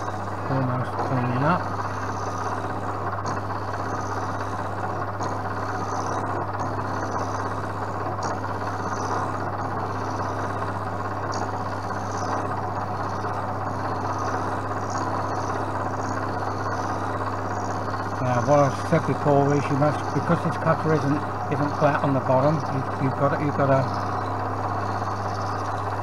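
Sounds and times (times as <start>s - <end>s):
milling machine motor hum: 0.0s - 26.0s.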